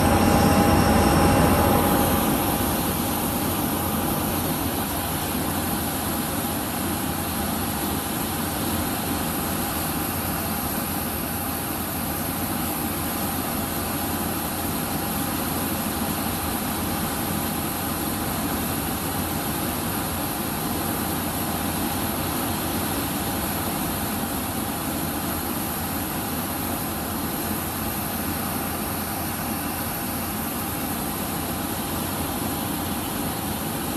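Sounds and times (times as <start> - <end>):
faint steady whine: 0.0 - 33.9
jet airliner engines droning: 0.0 - 33.9.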